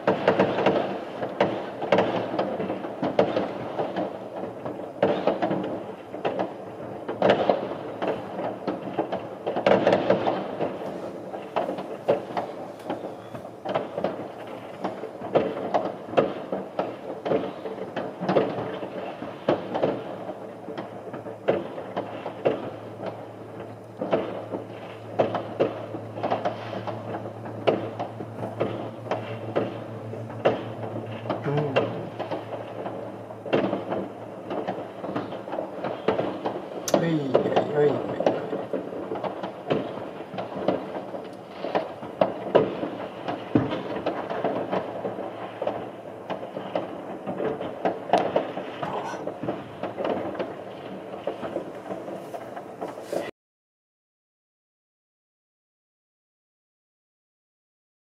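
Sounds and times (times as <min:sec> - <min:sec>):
distant fireworks crackling and banging: 0:00.0 - 0:53.3
loud single firework bangs: 0:00.0 - 0:53.3.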